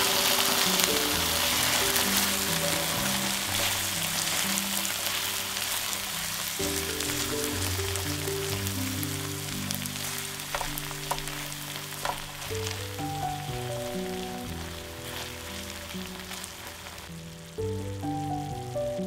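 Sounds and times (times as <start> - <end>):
spatula stirring in pan: 0.0 - 17.6
background music with low notes: 0.0 - 19.0
vegetables sizzling in frying pan: 0.0 - 19.0.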